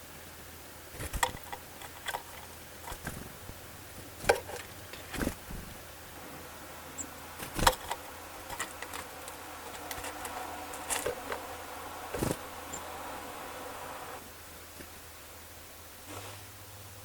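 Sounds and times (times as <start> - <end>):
faint buzzing hum: 0.0 - 17.0
birds pecking and landing: 0.9 - 15.0.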